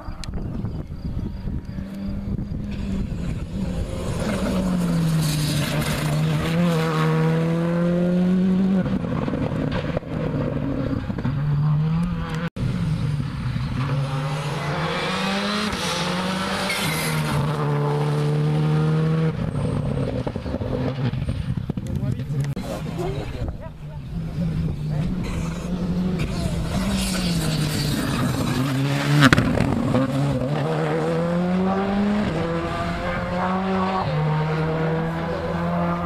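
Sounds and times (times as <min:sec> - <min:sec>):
rally car engine revving hard: 0:02.0 - 0:23.0, 0:24.0 - 0:36.0.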